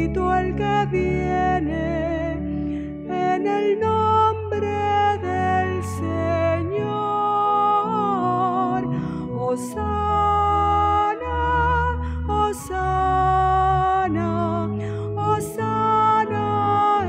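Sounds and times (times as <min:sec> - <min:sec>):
instrumental church accompaniment: 0:00.0 - 0:17.0
person singing long notes: 0:03.0 - 0:17.0.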